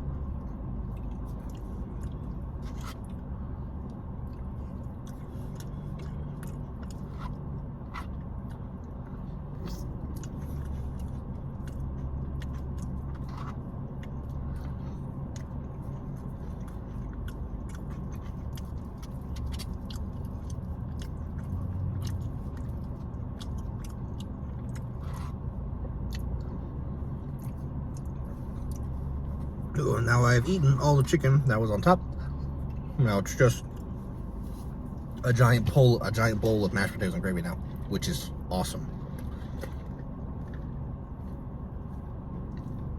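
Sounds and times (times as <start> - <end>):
chewing soft food: 0.0 - 36.4, 37.6 - 42.9
steady low hum: 0.0 - 42.9.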